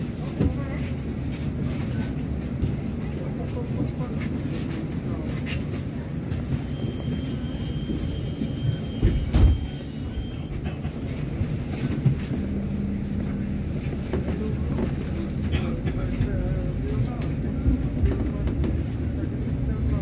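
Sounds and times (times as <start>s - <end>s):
bus rumbling: 0.0s - 20.0s.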